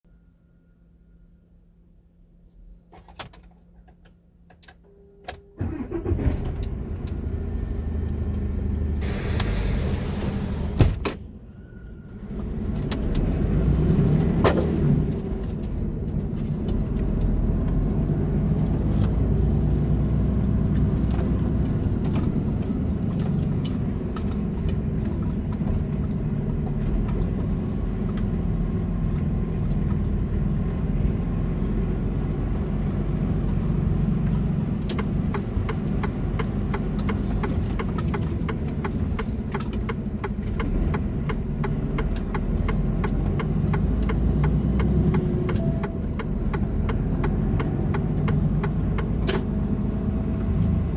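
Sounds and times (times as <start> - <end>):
truck diesel engine running: 5.6 - 11.0, 12.3 - 50.9.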